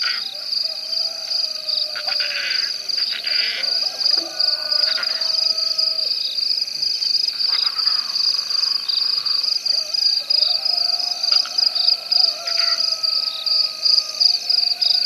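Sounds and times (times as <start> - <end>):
frogs and insects calling: 0.0 - 15.0.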